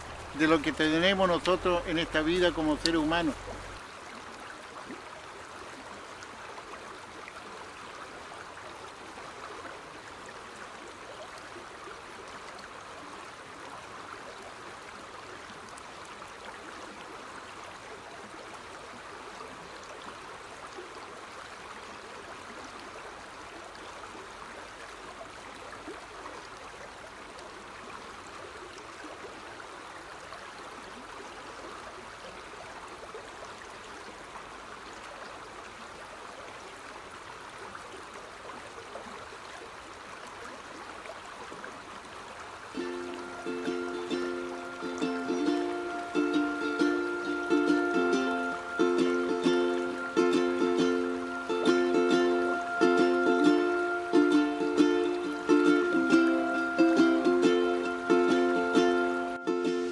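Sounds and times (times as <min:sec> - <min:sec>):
water flowing over rocks: 0:00.0 - 0:59.9.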